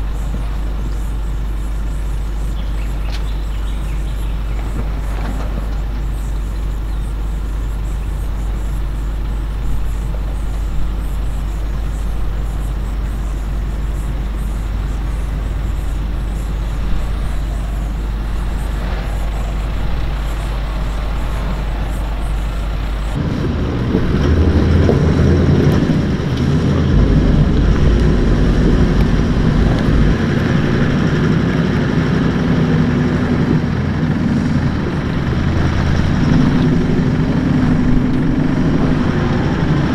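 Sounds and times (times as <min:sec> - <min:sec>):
off-road vehicle engine crawling: 0:00.0 - 0:39.9.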